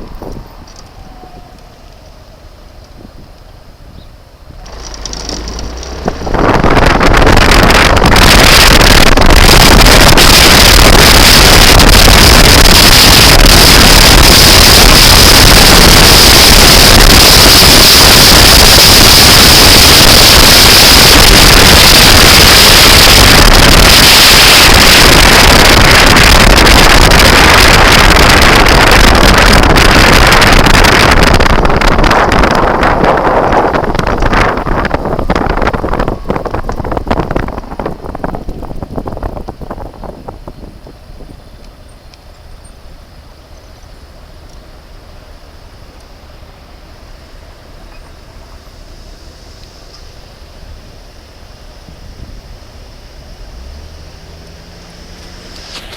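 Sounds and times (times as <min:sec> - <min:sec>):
wind rushing past moving vehicle: 0:00.0 - 0:43.1, 0:50.0 - 0:55.9.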